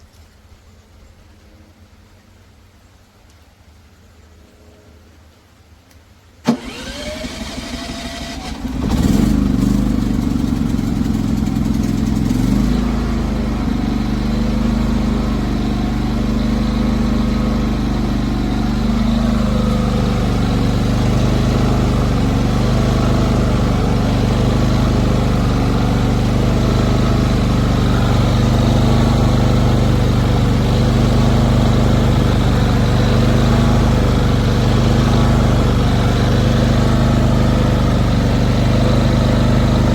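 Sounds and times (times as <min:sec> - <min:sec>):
electric starter whirring: 0:06.5 - 0:39.9
generator engine running: 0:06.5 - 0:39.9.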